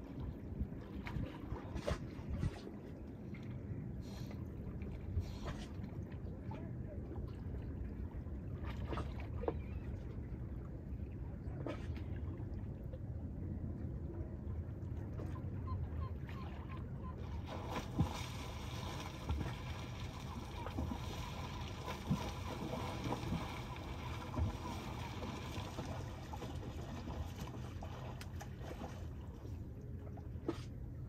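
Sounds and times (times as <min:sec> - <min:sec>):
water sloshing and splashing: 0:00.0 - 0:13.4, 0:14.0 - 0:31.0.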